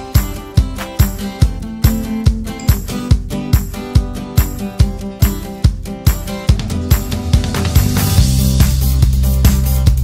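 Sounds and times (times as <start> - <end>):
guitar music over a steady beat: 0.0 - 10.0.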